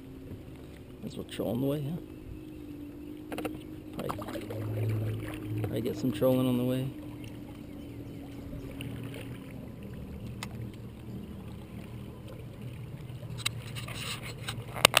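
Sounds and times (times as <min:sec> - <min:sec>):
boat motor humming: 0:00.0 - 0:15.0
water noise: 0:00.0 - 0:15.0.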